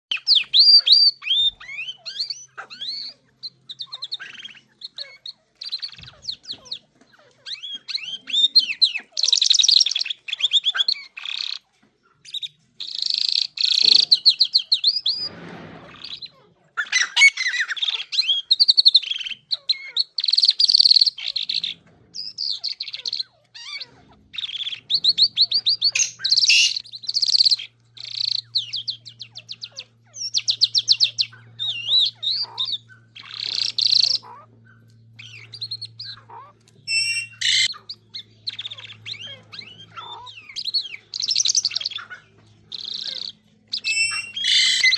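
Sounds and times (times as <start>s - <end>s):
songbird chirping and trilling: 0.0s - 44.9s.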